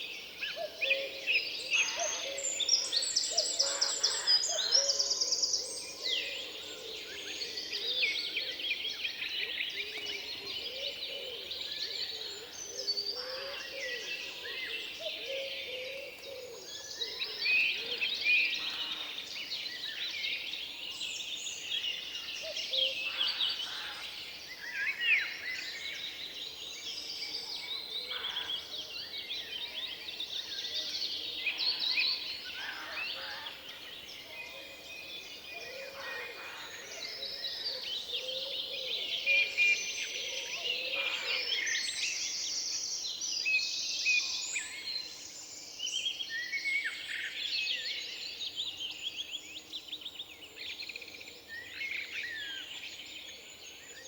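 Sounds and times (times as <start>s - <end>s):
songbirds singing and calling: 0.0s - 54.0s.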